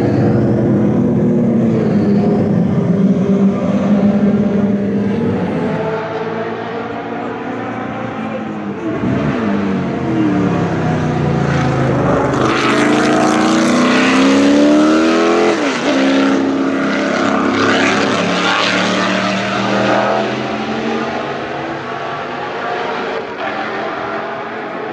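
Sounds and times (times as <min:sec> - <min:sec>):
racing car engine: 0:00.0 - 0:24.9.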